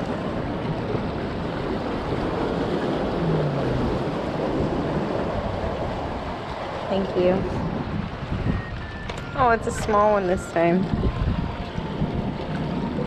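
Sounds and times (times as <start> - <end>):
waves washing at shore: 0.0 - 13.0
wind noise on microphone: 0.0 - 13.0.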